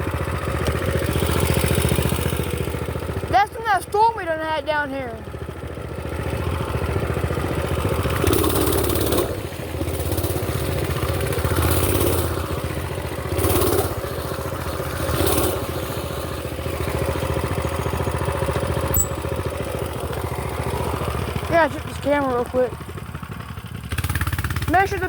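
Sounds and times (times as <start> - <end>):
mini bike engine running: 0.0 - 25.0.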